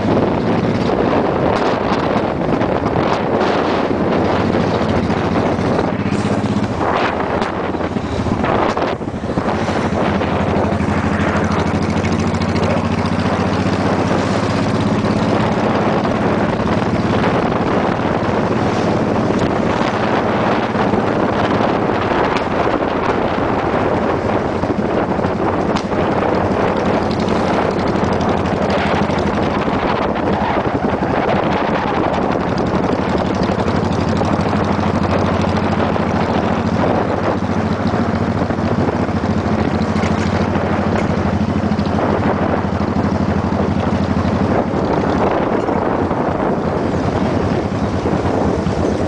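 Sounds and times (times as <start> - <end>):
motorcycle engine cruising: 0.0 - 49.0
wind buffeting microphone: 0.0 - 49.0.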